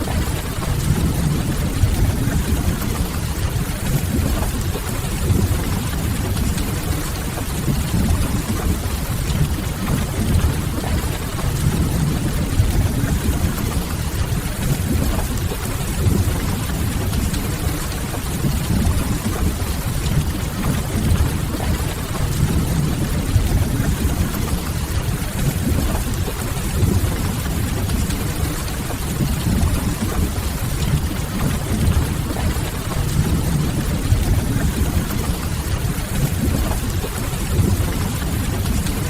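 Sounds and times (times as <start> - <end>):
rain on a window: 0.0 - 39.0.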